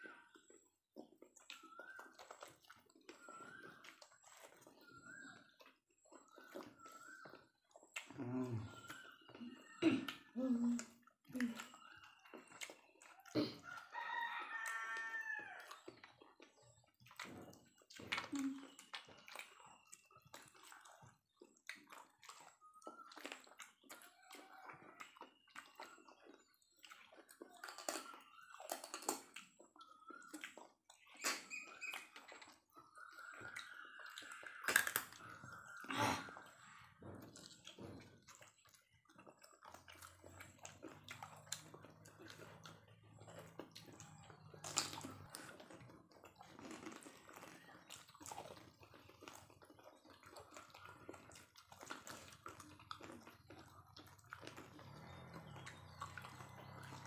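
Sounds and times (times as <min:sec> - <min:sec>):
chewing and wet slurping: 0:00.0 - 0:57.0.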